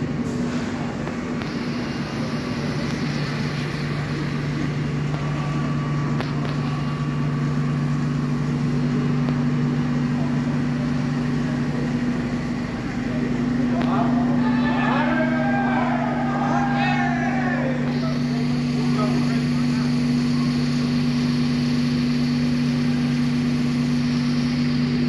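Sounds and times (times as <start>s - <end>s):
train electrical hum: 0.0s - 25.0s.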